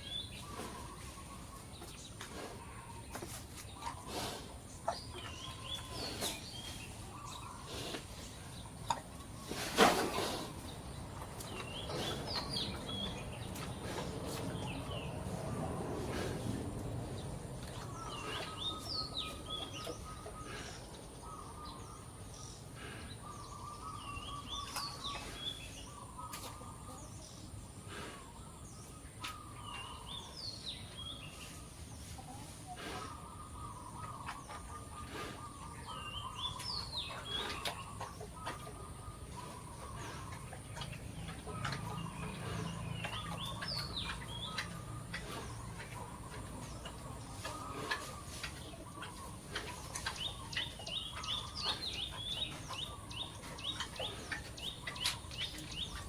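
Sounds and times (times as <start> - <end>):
birds chattering: 0.0 - 56.0.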